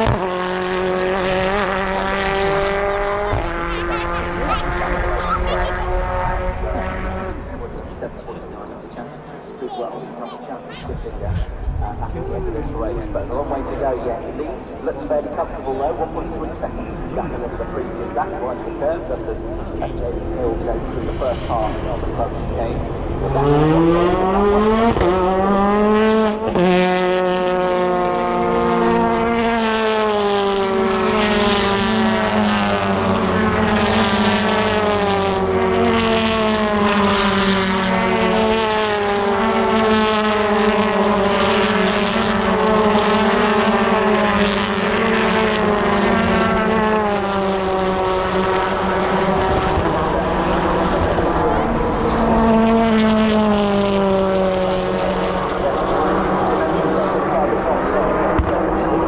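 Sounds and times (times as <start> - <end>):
racing car engines at full throttle: 0.0 - 59.0.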